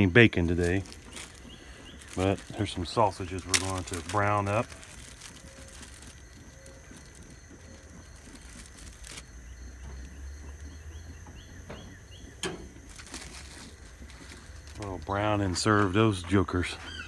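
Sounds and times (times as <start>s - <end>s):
plastic bag crinkling: 0.0s - 10.2s, 12.8s - 16.6s
bird chirping: 0.0s - 17.0s.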